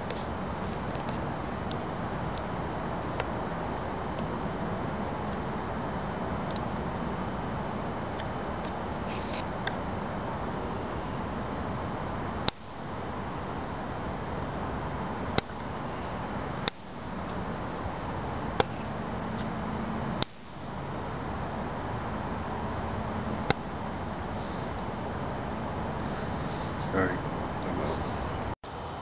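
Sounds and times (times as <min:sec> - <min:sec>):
ambient hiss: 0:00.0 - 0:29.0.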